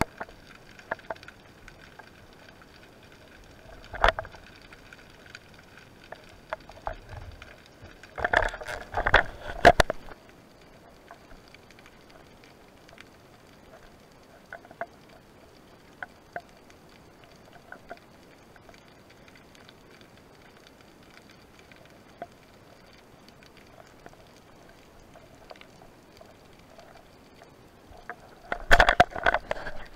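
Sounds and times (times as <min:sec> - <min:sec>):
faint clicks and crackle: 0:00.0 - 0:29.9.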